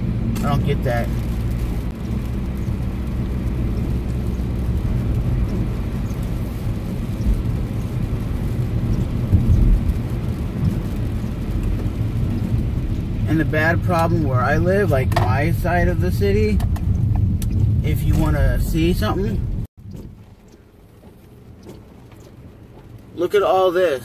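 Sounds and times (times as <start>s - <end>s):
heavy rain on car: 0.0s - 24.0s
road and engine rumble: 0.0s - 24.0s.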